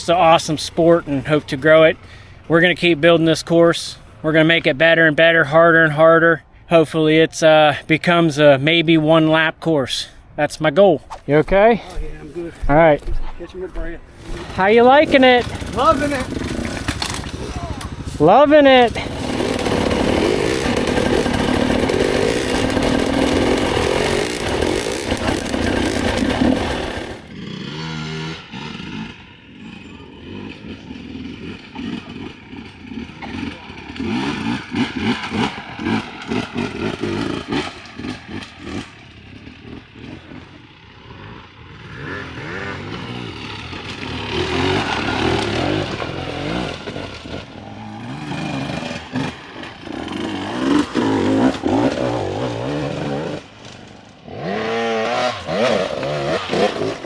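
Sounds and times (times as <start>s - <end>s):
dirt bike engine: 0.0s - 57.0s.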